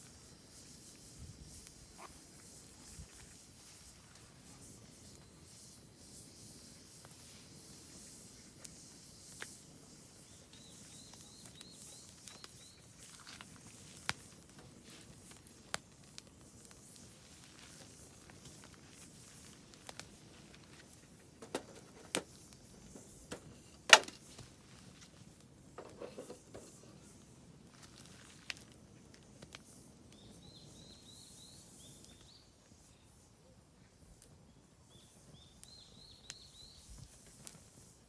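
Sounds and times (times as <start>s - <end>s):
campfire crackling and popping: 0.0s - 32.8s.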